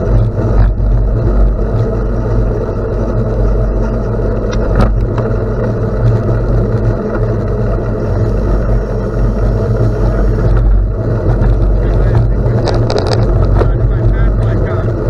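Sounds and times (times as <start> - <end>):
tyres rolling on gravel: 0.0 - 15.0
wind rumble on microphone: 0.0 - 15.0.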